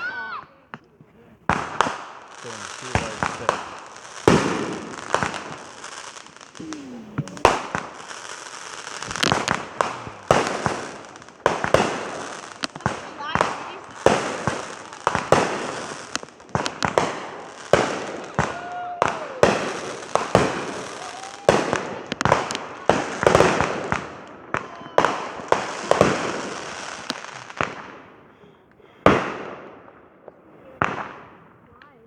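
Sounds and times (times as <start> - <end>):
fireworks bangs: 0.0 - 32.0
fireworks crackling hiss: 0.0 - 32.0.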